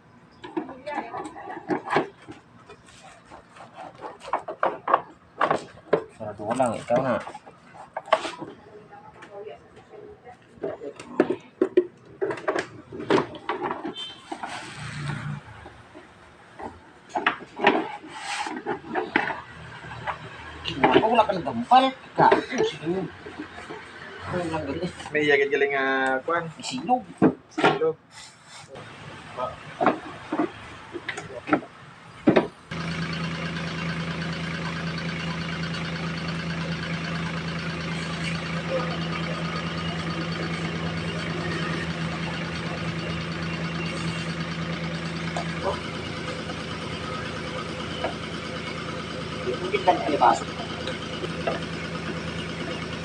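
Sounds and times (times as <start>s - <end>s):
parts knocking and rubbing: 0.3s - 8.7s, 10.6s - 21.3s, 28.7s - 53.0s.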